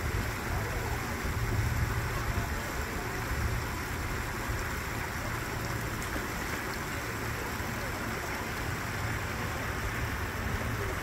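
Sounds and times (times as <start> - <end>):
low unsteady rumble: 0.0 - 11.0.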